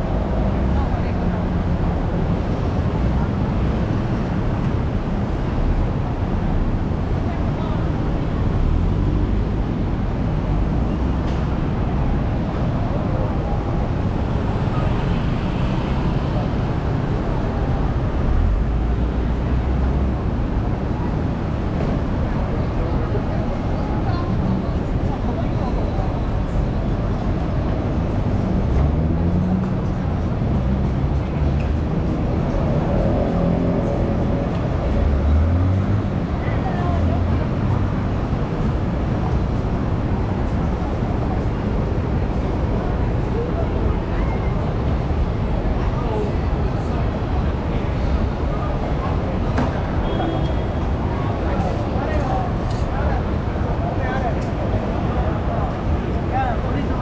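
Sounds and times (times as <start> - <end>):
voices: 0.0 - 28.1, 28.8 - 57.0
traffic rumble: 0.0 - 57.0.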